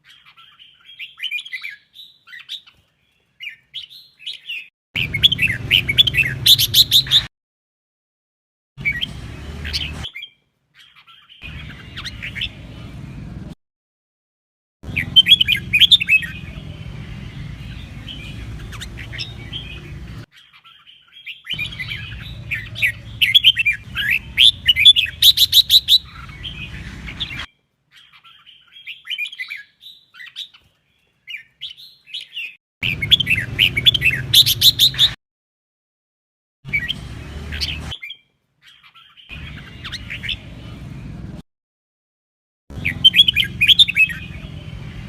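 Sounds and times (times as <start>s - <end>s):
bird singing chirped phrases: 0.0s - 7.3s, 8.8s - 13.6s, 14.8s - 35.2s, 36.7s - 41.4s, 42.7s - 45.0s.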